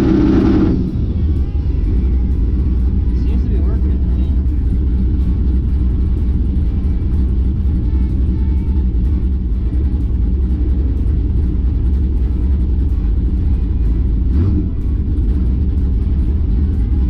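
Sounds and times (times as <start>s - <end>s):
race car engine idling: 0.0s - 17.0s.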